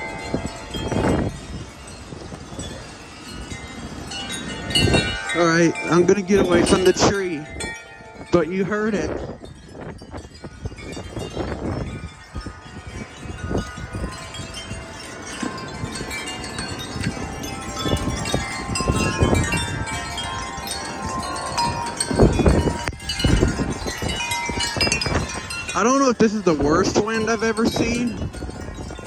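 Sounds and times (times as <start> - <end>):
wind chimes ringing: 0.0 - 29.0
wind gusts rumbling on microphone: 0.0 - 29.0.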